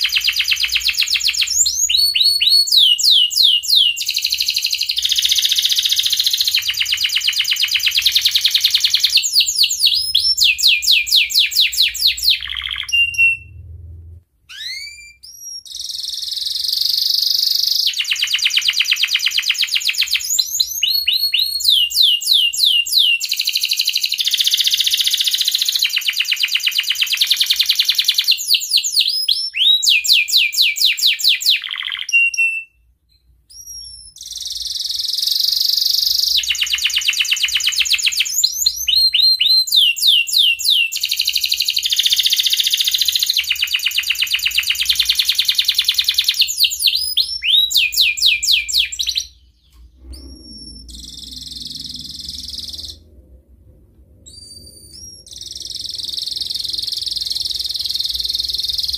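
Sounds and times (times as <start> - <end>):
canary singing trills: 0.0 - 13.7, 14.5 - 32.8, 33.5 - 53.2, 54.2 - 58.9.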